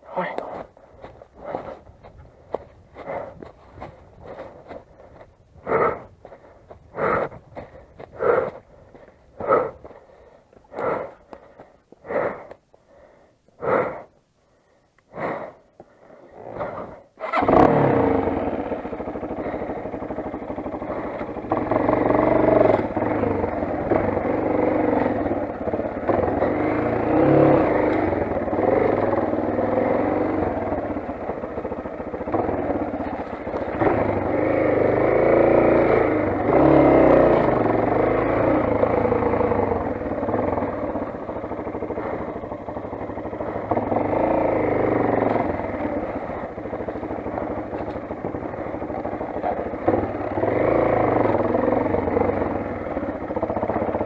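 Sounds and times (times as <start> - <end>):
motorcycle engine running: 0.0 - 14.2, 15.4 - 54.0.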